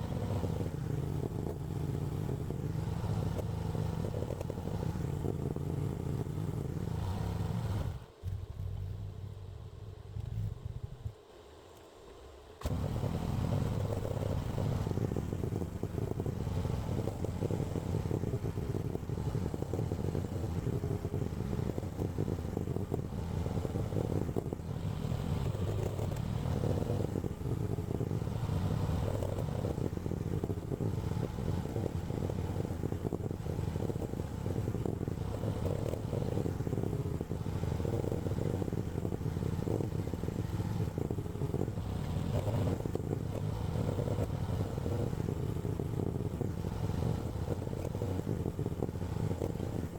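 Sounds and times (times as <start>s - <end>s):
small excavator engine running: 0.0s - 49.9s.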